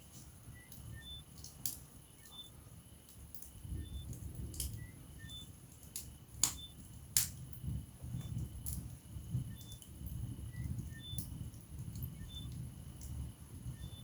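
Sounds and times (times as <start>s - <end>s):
burning logs crackling and popping: 0.0s - 14.0s
fire flames fluttering: 0.0s - 14.0s.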